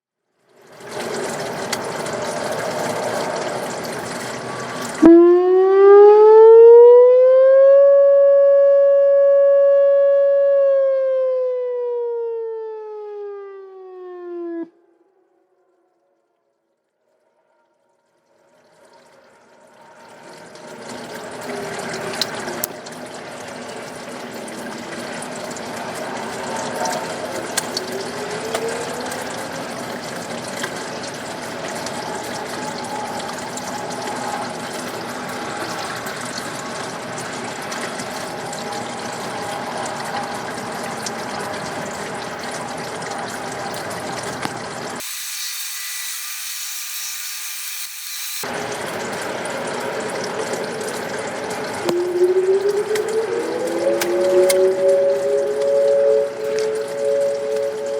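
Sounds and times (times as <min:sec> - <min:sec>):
rotating warning siren: 0:01.0 - 0:16.3, 0:23.8 - 0:48.5, 0:49.4 - 0:57.9.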